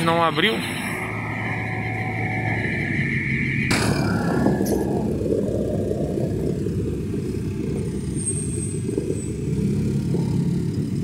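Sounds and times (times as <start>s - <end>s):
humming tone: 0.0s - 10.8s
diesel engine rumbling: 0.0s - 11.0s.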